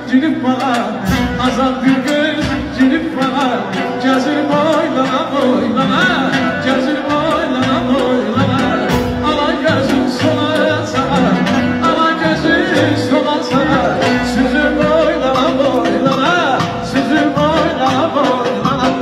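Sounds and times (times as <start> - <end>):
accordion and keyboard accompaniment: 0.0 - 19.0
saz playing ornamented melody: 1.1 - 19.0.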